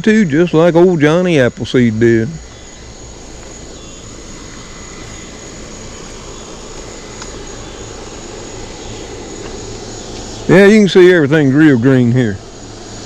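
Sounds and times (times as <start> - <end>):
high-pitched insect drone: 0.0 - 13.0
low steady rumble: 0.0 - 13.0.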